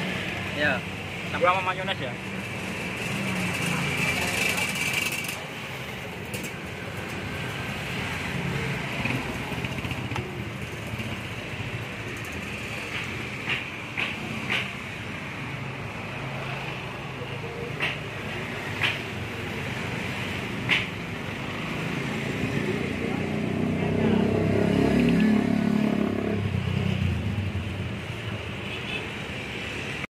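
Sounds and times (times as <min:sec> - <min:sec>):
passing motor vehicles hum: 0:00.0 - 0:30.0.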